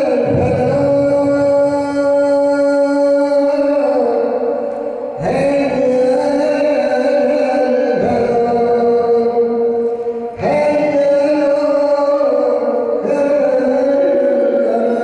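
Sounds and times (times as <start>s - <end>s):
man chanting prayer: 0.0s - 15.0s.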